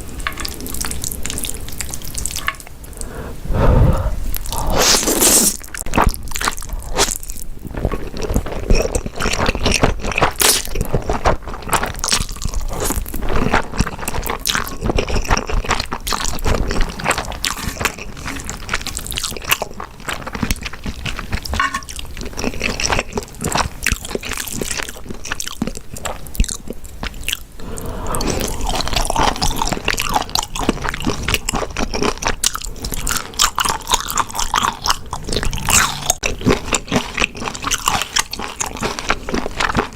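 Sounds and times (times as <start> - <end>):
person chewing crunchy food: 0.2 - 39.9.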